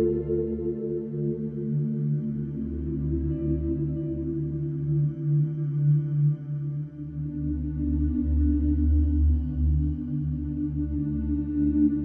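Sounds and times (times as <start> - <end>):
ambient droning music: 0.0 - 12.0.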